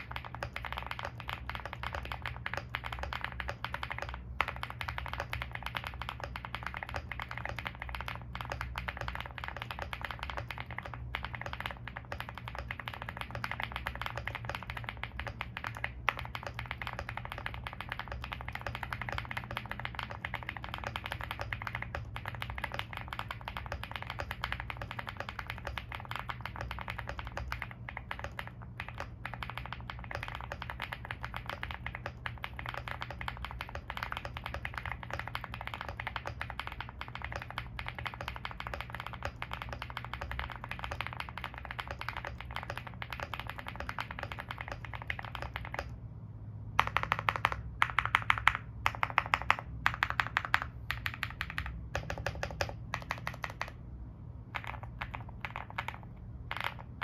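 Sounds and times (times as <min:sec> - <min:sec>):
key presses in clusters: 0:00.0 - 0:46.0, 0:46.7 - 0:53.8, 0:54.4 - 0:57.0
mechanical keyboard typing: 0:00.0 - 0:46.0, 0:46.7 - 0:57.0.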